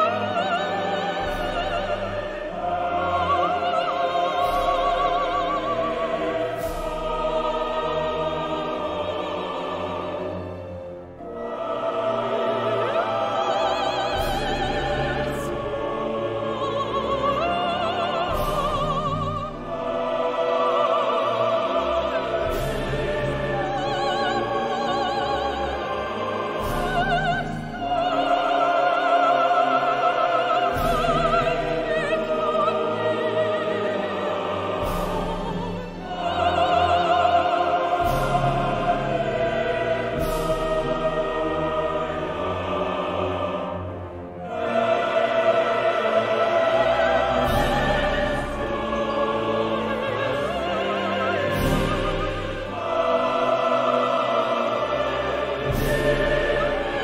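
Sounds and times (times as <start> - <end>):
symphony orchestra: 0.0 - 57.0
voices singing with vibrato: 0.0 - 57.0.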